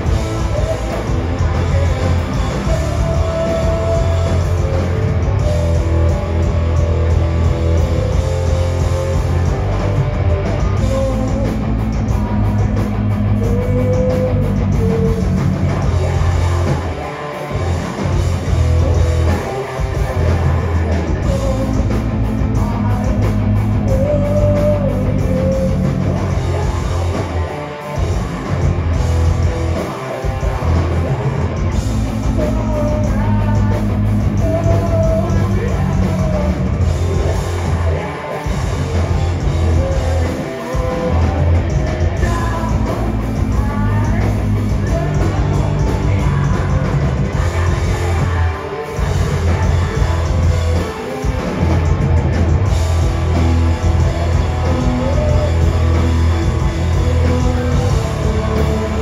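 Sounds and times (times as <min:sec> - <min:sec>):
person singing: 0:00.0 - 0:06.8, 0:10.5 - 0:18.1, 0:18.7 - 0:28.0, 0:29.8 - 0:51.7, 0:54.1 - 0:59.0
bass guitar: 0:00.0 - 0:59.0
drum kit: 0:00.0 - 0:59.0
electric guitars: 0:00.0 - 0:59.0.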